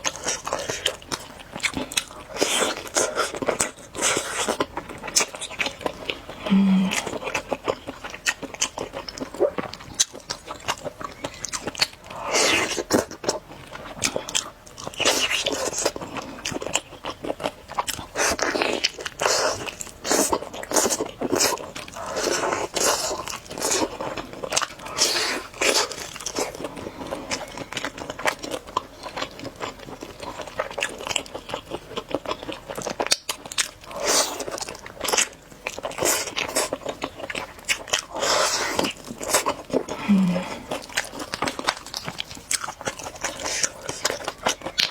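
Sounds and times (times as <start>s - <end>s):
person biting and chewing: 0.0s - 44.9s.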